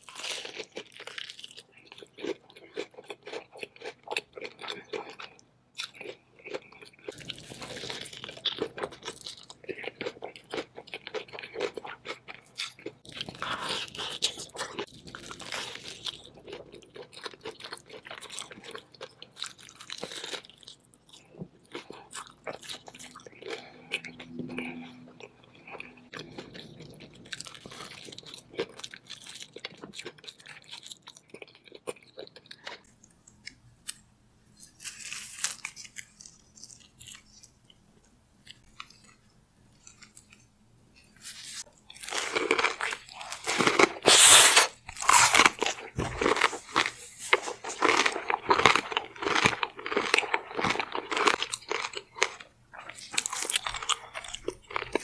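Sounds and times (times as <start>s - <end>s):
crunchy chip crust crunching: 0.0s - 23.8s, 24.5s - 34.0s, 34.6s - 37.6s, 41.3s - 55.0s.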